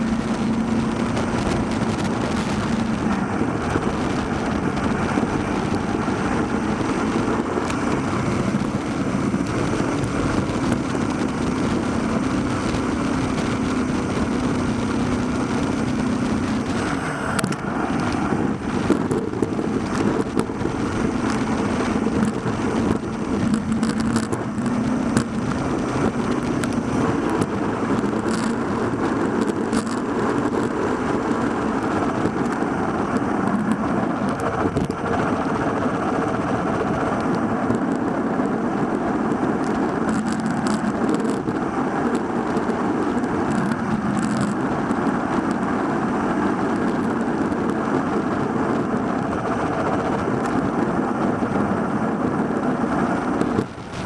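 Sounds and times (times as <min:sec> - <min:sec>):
bicycle road rumble: 0:00.0 - 0:54.0
wind rush: 0:00.0 - 0:54.0.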